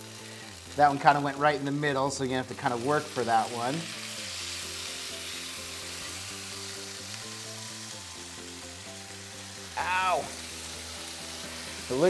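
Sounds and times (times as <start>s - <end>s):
food sizzling on a griddle: 0.0s - 12.0s
soft background music: 0.0s - 12.0s.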